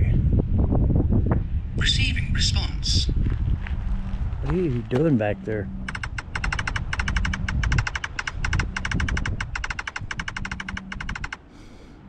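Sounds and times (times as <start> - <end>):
low microphone handling rumble: 0.0 - 11.2.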